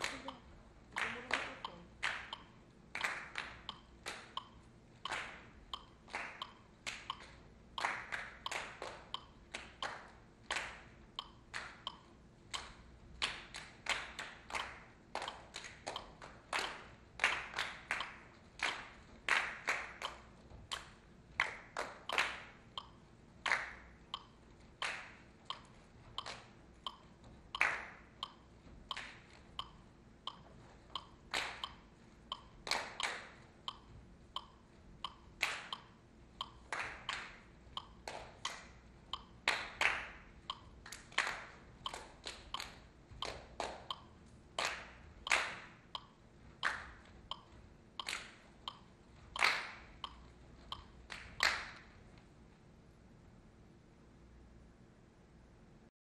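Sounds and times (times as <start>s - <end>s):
sharp percussive claps or taps: 0.0s - 0.4s, 1.0s - 51.9s.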